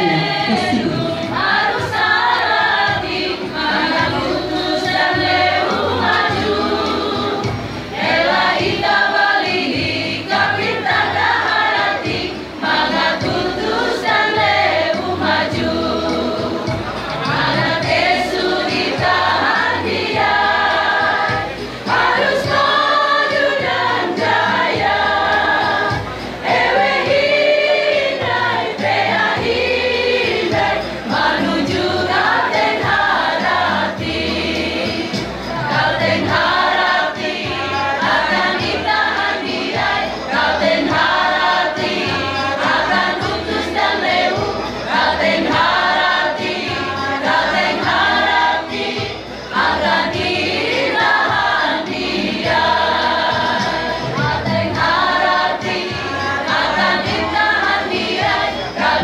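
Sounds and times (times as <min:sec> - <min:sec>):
mixed choir singing: 0:00.0 - 0:59.0.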